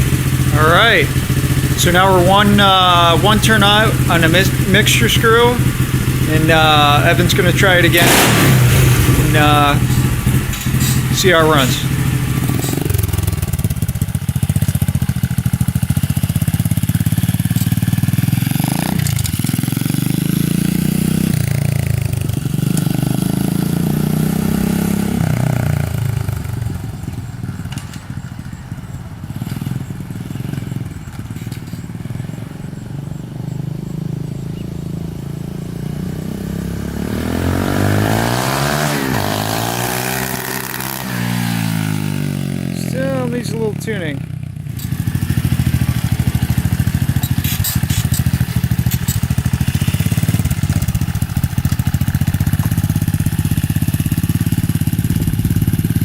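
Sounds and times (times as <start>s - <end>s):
motorcycle engine passing by: 0.0s - 56.0s.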